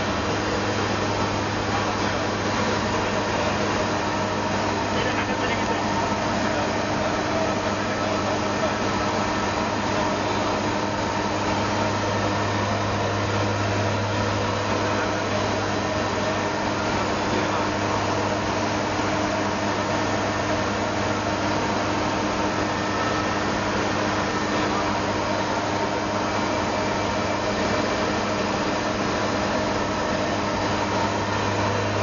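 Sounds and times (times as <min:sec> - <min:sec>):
propeller and engine hum: 0:00.0 - 0:32.0.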